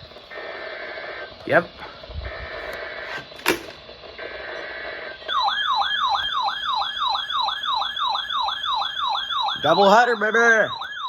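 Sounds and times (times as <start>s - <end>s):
electronic siren yelping: 0.3s - 3.4s, 4.2s - 11.0s.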